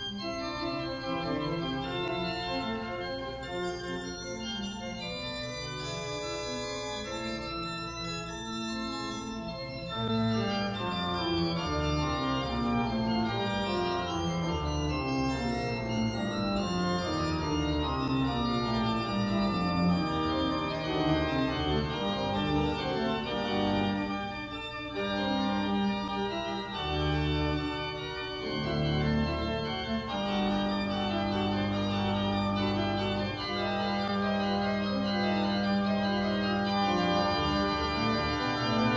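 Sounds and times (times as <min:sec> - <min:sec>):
organ music: 0:00.0 - 0:38.9.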